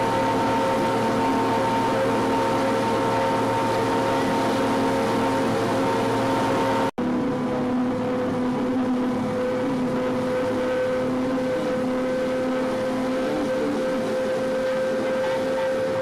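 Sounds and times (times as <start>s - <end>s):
water rushing in wake: 0.0s - 6.9s, 7.7s - 16.0s
boat engine humming: 0.0s - 16.0s.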